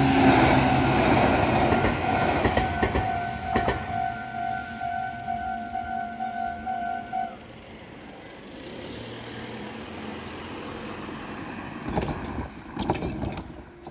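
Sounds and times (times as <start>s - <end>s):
road vehicle noise: 0.0s - 13.9s.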